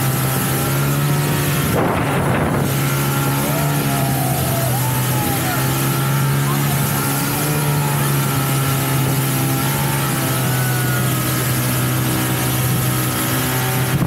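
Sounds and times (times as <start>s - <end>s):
hiss of boat wake: 0.0s - 14.0s
motorboat engine running: 0.0s - 14.0s.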